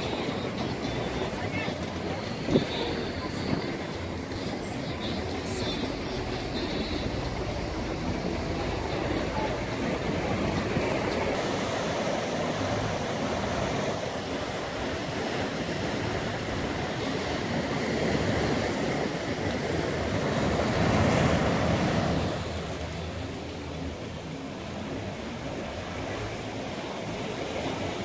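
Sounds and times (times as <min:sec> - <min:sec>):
ocean surf breaking on rocks: 0:00.0 - 0:28.0.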